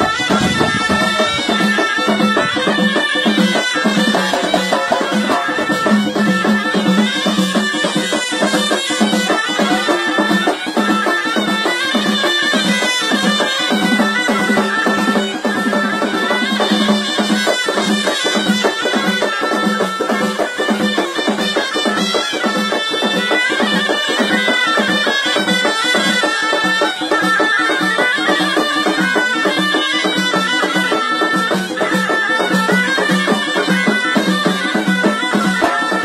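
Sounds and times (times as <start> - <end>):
folk music with wind instrument: 0.0 - 36.0
steady drum beat: 0.0 - 36.0.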